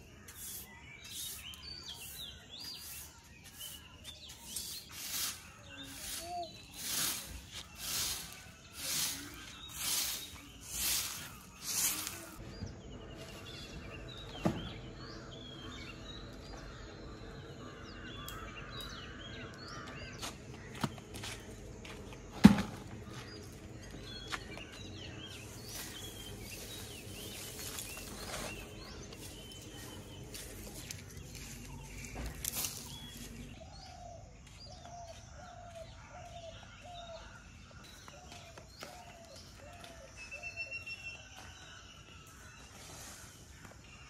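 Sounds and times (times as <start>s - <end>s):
birds chirping and calling: 0.0s - 44.0s.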